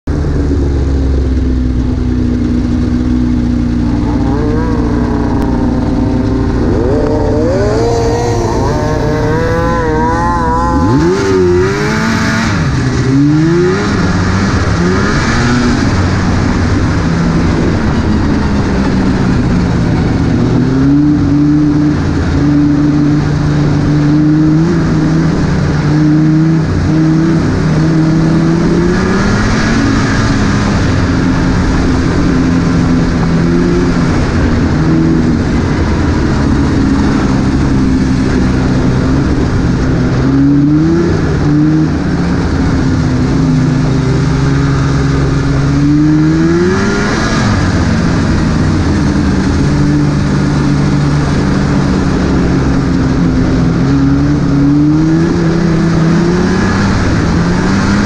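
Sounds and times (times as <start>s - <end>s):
snowmobile engine: 0.0s - 58.0s.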